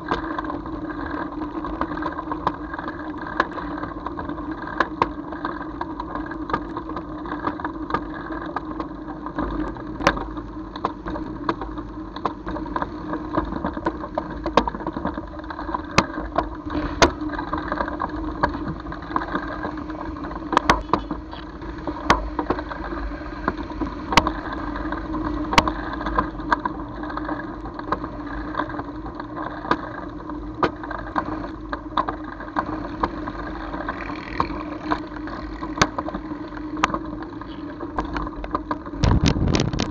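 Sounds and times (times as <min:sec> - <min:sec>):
sharp clicks and rattles: 0:00.0 - 0:39.9
vehicle engine humming: 0:00.0 - 0:39.9.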